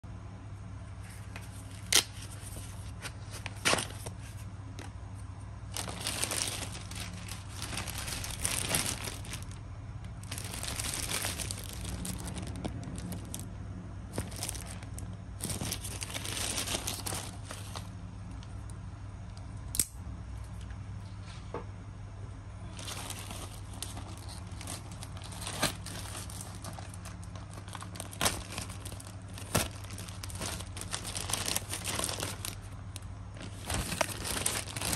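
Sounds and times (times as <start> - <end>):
steady low hum: 0.0 - 34.9
plastic bags crinkling and rustling: 1.1 - 4.9, 5.6 - 18.6, 22.6 - 34.9.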